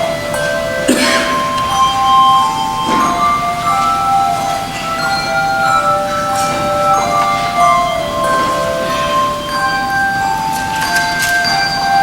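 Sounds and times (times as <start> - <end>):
handbell choir ringing: 0.0 - 12.0.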